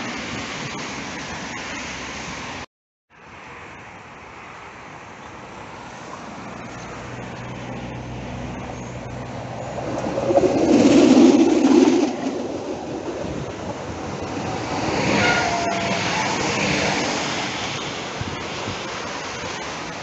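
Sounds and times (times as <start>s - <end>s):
tram passing: 0.0s - 2.6s, 3.4s - 20.0s.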